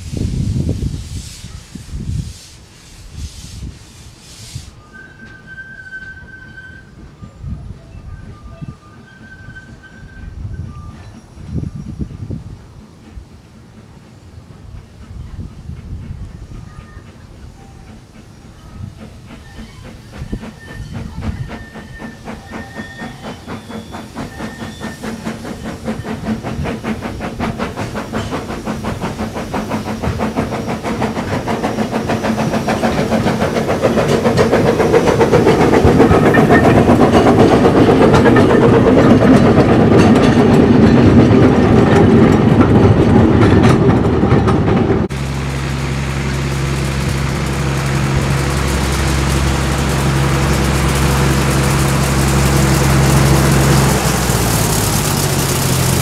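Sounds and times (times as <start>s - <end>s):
steam locomotive exhaust beats: 0.0s - 5.5s, 8.2s - 56.0s
diesel locomotive engine drone: 7.0s - 56.0s.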